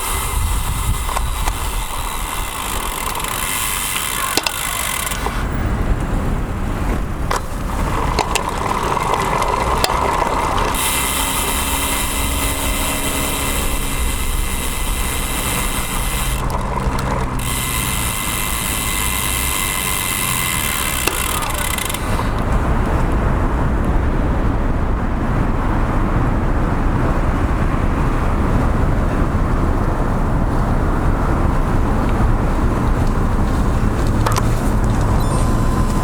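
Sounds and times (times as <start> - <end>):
wind rush: 0.0 - 4.2, 4.8 - 19.0, 21.9 - 36.0
traffic: 0.0 - 36.0
vehicle whine: 0.0 - 36.0.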